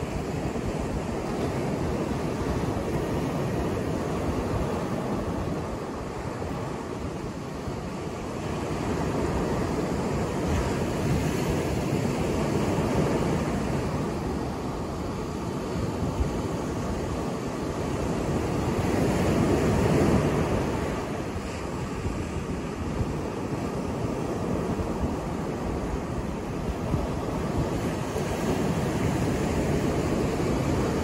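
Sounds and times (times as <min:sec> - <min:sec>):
waves breaking on beach: 0:00.0 - 0:31.0.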